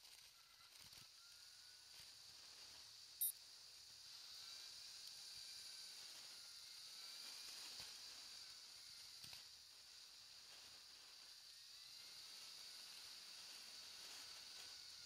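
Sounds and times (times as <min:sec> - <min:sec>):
electric scooter motor whine: 0:00.0 - 0:15.0.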